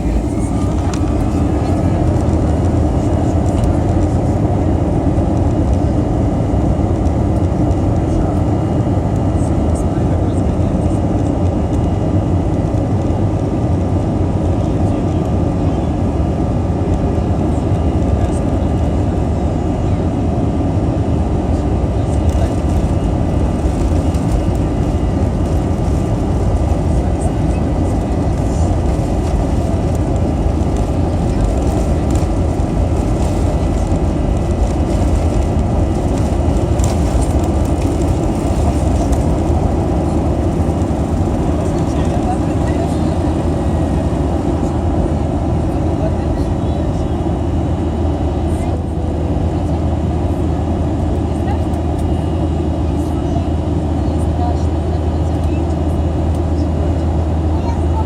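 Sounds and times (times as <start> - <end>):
faint high engine whine: 0.0 - 58.0
jet engine rumble in cabin: 0.0 - 58.0.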